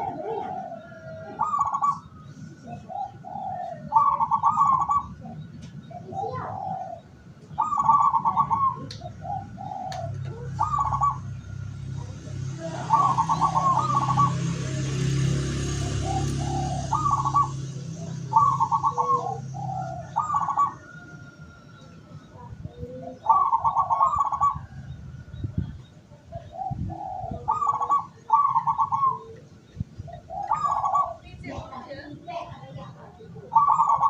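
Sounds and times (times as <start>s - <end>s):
doves cooing: 0.0s - 34.0s.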